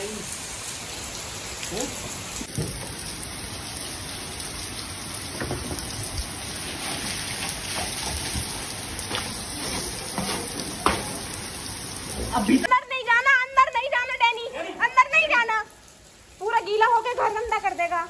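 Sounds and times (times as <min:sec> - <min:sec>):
heavy rain on hard floor: 0:00.0 - 0:18.0.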